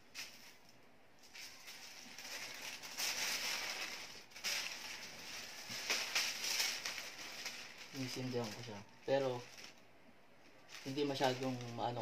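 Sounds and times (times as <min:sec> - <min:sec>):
tissue paper rustling and crinkling: 0:01.2 - 0:09.8, 0:10.5 - 0:12.0.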